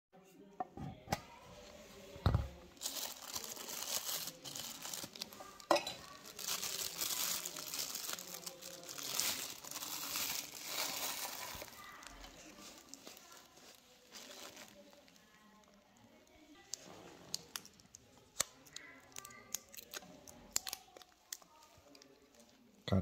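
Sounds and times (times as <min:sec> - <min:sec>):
plastic wrapping crinkling: 0:01.3 - 0:22.7.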